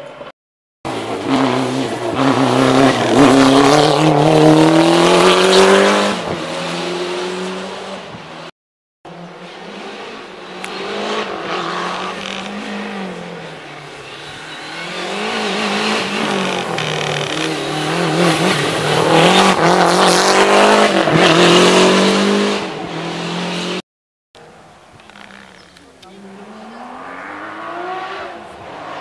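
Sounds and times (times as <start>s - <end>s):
rally car engine revving: 0.9s - 8.5s, 9.1s - 23.8s, 25.1s - 29.0s.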